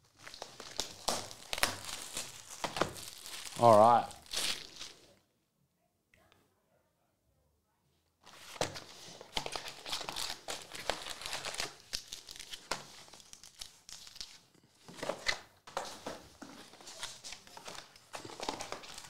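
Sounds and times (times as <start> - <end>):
foil card packs crinkling: 0.0 - 5.1, 8.3 - 19.0.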